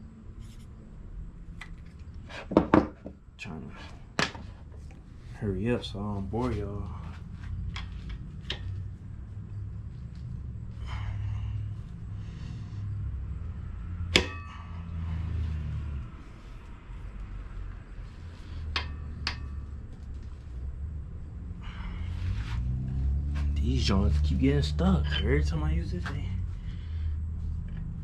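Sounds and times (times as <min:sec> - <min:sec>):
steady low rumble: 0:04.6 - 0:28.0.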